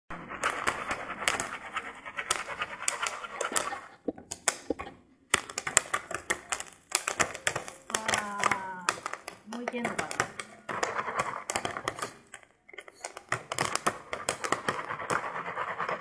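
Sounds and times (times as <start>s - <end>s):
popcorn popping: 0.2s - 15.4s.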